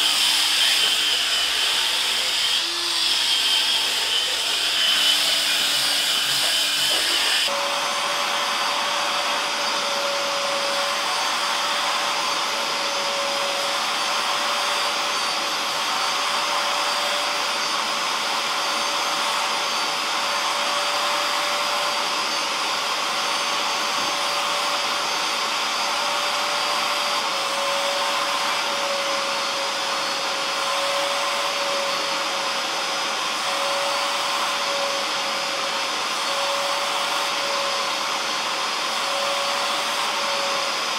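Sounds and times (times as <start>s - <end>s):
cordless drill spinning: 0.0s - 40.9s
vacuum motor whining: 0.0s - 40.9s.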